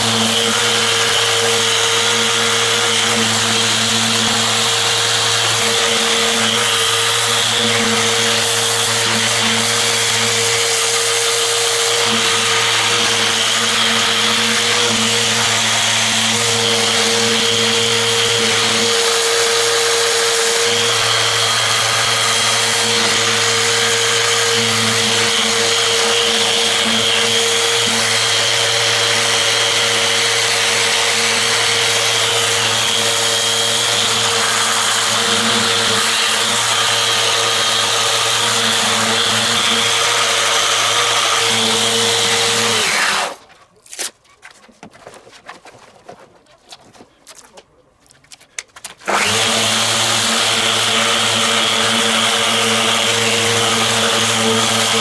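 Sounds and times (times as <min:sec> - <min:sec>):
orbital sander on steel: 0:00.0 - 0:43.4, 0:49.0 - 0:55.0.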